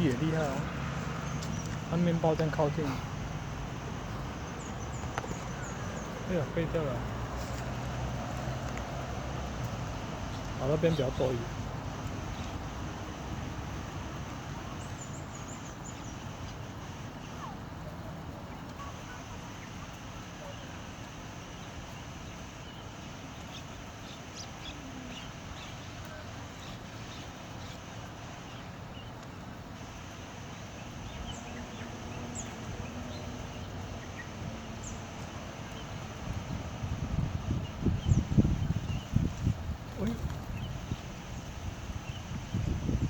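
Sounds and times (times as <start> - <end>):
outdoor background noise: 0.0 - 43.0
small birds chirping: 0.0 - 43.0.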